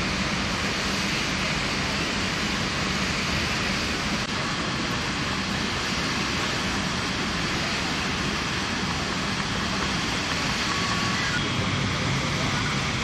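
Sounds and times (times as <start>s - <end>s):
heavy rain hissing: 0.0s - 13.0s
traffic on wet roads: 0.0s - 13.0s.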